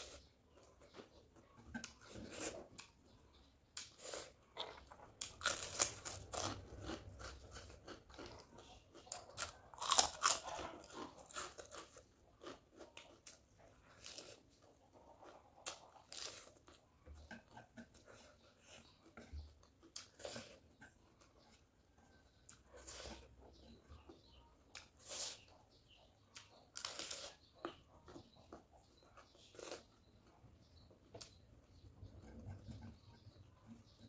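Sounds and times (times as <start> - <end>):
chewing crisp lettuce: 0.0 - 34.0.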